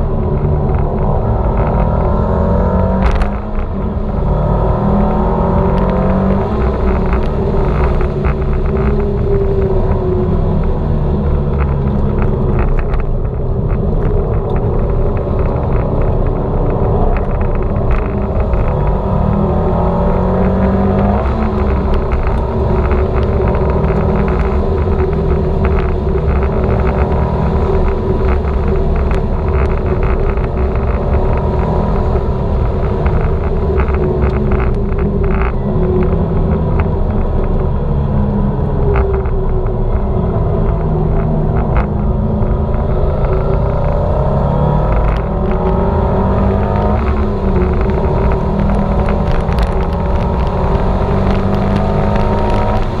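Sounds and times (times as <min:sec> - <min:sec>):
car engine running hard: 0:00.0 - 0:53.0
wind and road noise: 0:00.0 - 0:53.0.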